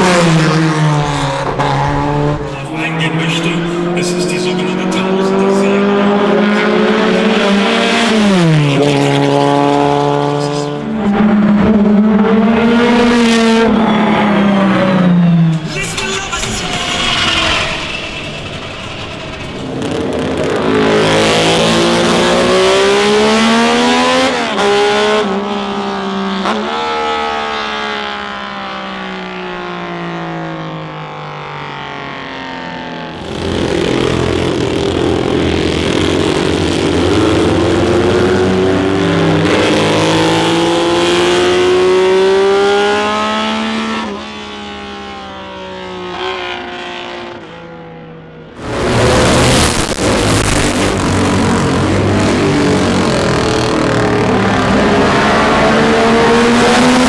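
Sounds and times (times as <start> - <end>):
racing car engines accelerating: 0.0 - 57.0.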